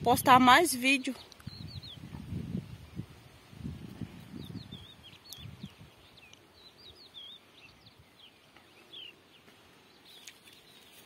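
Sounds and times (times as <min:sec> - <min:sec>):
birds chirping and whistling: 0:01.0 - 0:03.1, 0:04.0 - 0:11.0.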